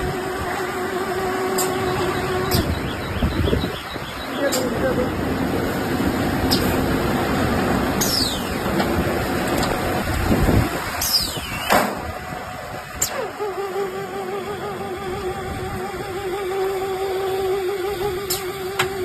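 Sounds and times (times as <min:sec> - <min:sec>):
baler machine mechanical din: 0:00.0 - 0:19.0.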